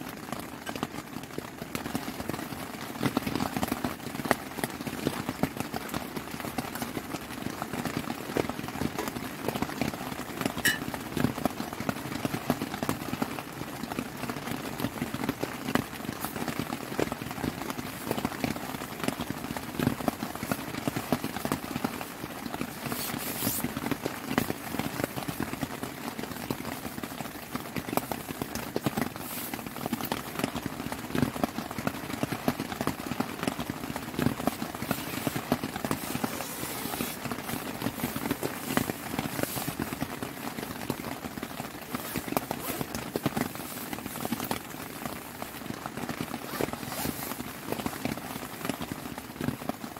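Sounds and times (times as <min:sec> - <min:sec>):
heavy rain on tent fabric: 0:00.0 - 0:49.9.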